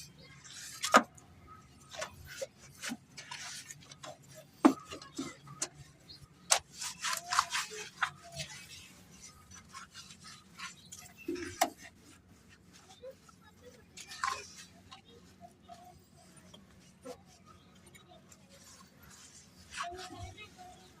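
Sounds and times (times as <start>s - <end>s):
brush scrubbing car engine: 0.0s - 21.0s.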